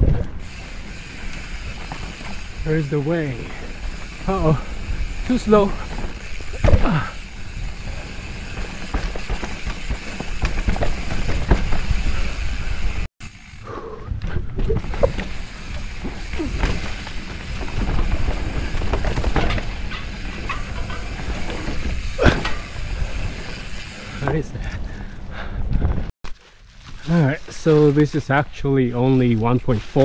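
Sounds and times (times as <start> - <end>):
tyres on dirt and leaves: 0.0 - 13.6, 14.8 - 24.5, 26.2 - 30.0
bike rattling over bumps: 0.0 - 30.0.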